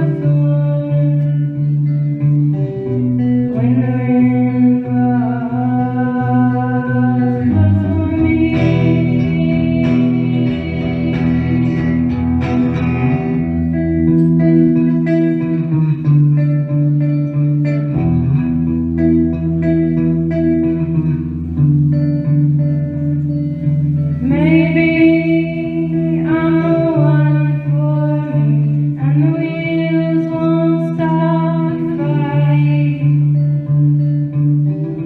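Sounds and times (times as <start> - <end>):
electric guitar music: 0.0 - 35.0.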